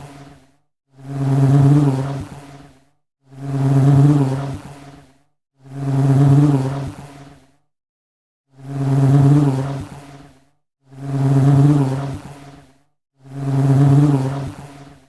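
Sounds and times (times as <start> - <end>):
honey bee buzzing in flight: 0.0 - 7.6, 8.6 - 15.0.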